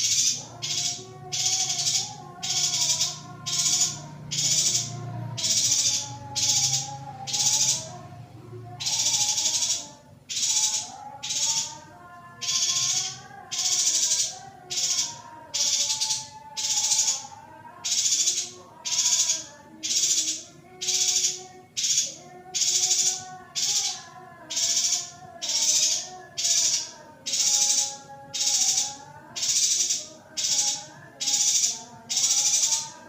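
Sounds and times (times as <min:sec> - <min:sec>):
harsh buzzing bird calls: 0:00.0 - 0:33.0.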